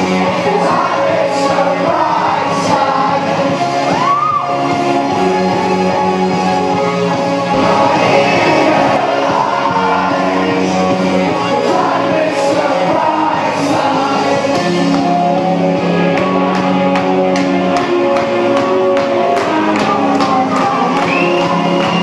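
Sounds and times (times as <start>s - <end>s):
disco music with vocals: 0.0s - 22.0s.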